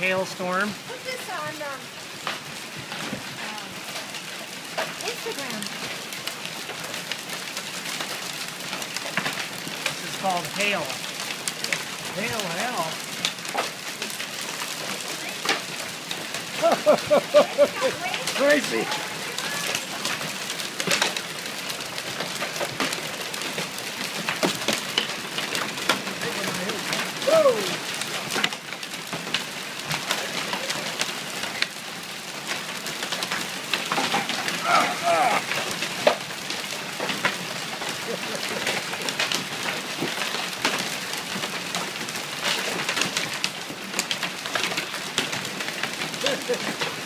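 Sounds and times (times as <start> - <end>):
hail and rain hissing: 0.0 - 47.0
hailstones clicking on wood: 0.0 - 47.0.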